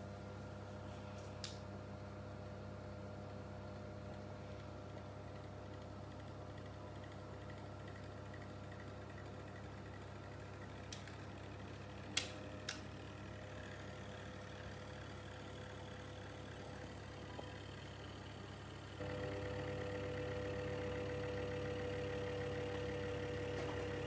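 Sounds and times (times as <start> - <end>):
space heater motor hum: 0.0 - 24.0.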